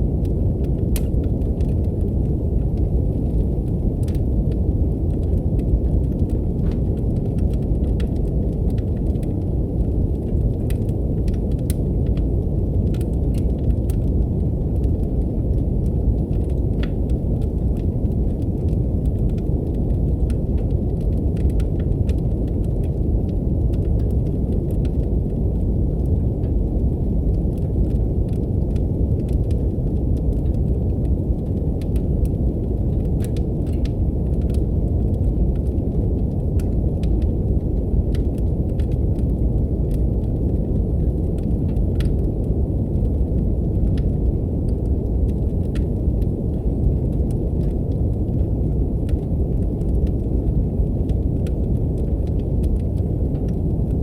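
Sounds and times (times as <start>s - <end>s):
deep brown noise: 0.0s - 54.0s
wood fire crackling: 0.0s - 54.0s.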